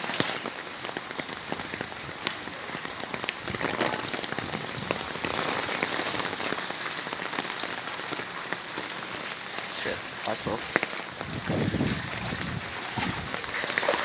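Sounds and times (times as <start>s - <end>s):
heavy rain on water: 0.0s - 14.0s.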